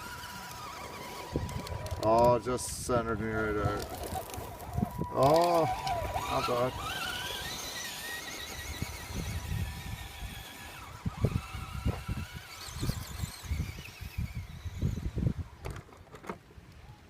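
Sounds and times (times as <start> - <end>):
electric motor and gears whining: 0.0 - 16.0.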